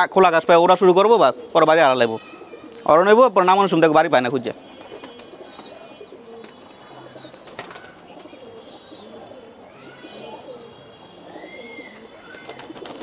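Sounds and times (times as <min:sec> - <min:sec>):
pigeons cooing: 0:00.0 - 0:13.0
high bird chirps: 0:00.3 - 0:13.0.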